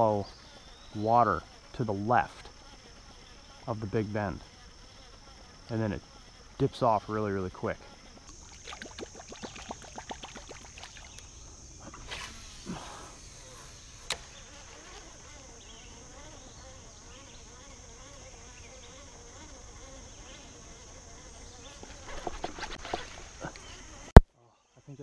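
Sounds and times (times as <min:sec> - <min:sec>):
high-pitched insect drone: 0:00.0 - 0:24.1.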